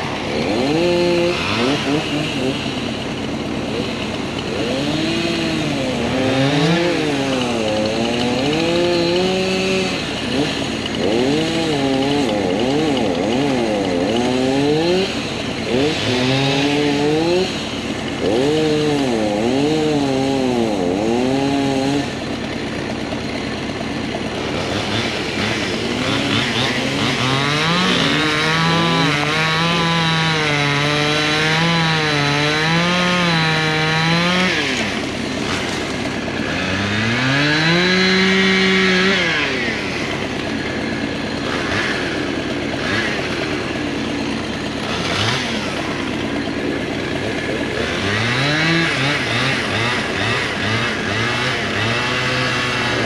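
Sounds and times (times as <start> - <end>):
chainsaw revving: 0.0 - 53.0.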